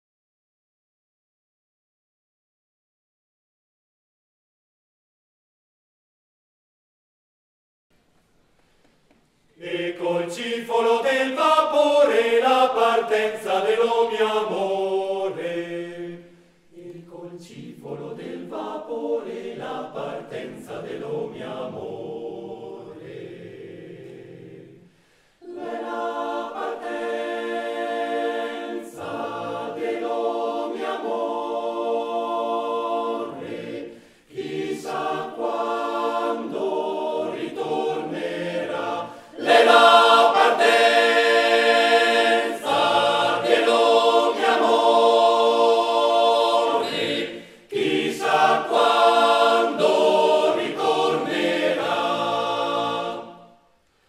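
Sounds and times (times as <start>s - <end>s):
male choir singing a cappella: 9.6s - 53.7s.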